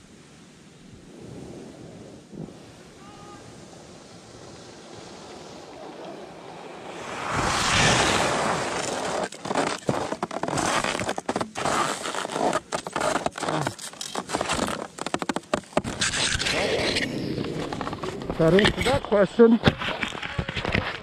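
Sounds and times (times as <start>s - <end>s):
ski scraping over snow: 4.1s - 21.0s.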